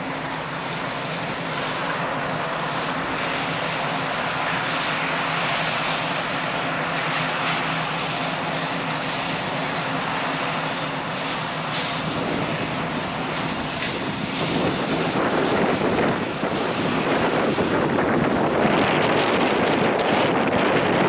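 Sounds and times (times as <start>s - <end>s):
diesel locomotive engine drone: 0.0s - 21.0s
rail and wheel noise: 0.0s - 21.0s
wind buffeting microphone: 0.0s - 21.0s.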